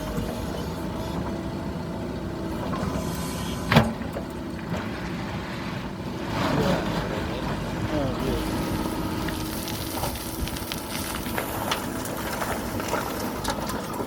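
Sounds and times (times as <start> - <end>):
backhoe engine running: 0.0 - 14.0.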